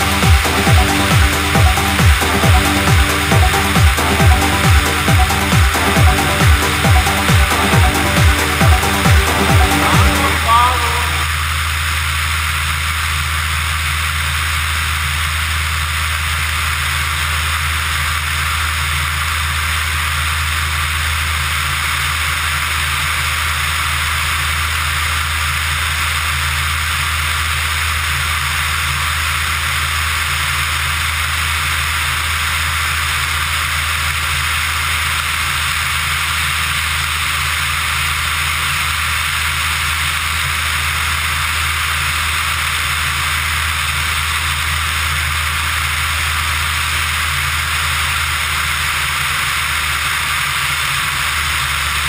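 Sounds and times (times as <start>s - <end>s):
aircraft engine and propeller drone: 0.0s - 52.0s.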